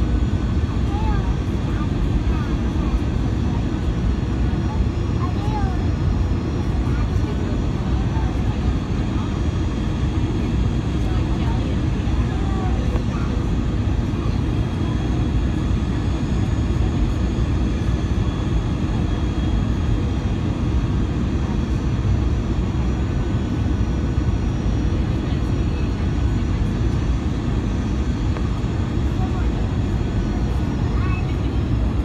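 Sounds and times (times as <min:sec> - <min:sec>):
jet engine rumble in cabin: 0:00.0 - 0:32.0.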